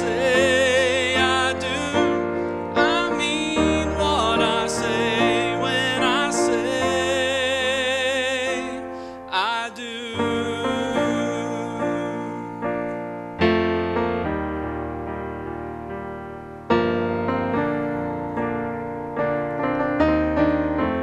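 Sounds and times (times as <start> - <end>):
slow ballad on piano: 0.0 - 21.0.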